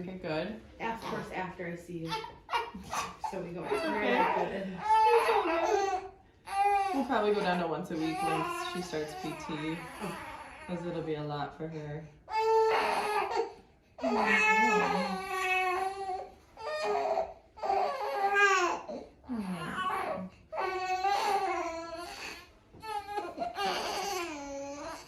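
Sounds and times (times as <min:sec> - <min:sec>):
infant crying: 0:02.1 - 0:11.1, 0:12.3 - 0:25.0.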